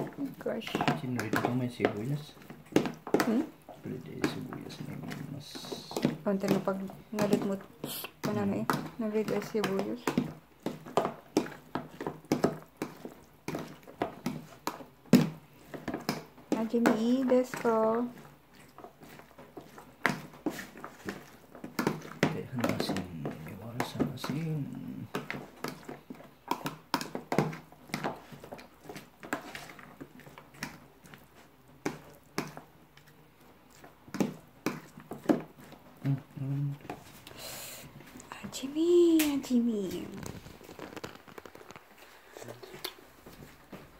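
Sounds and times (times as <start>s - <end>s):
hand squelching wet food: 0.0s - 43.9s.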